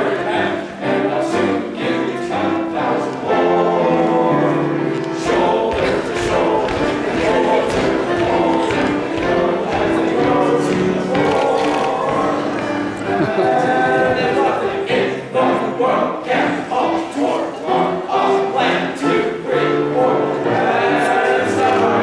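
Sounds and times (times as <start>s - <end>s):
boys singing together: 0.0s - 22.0s.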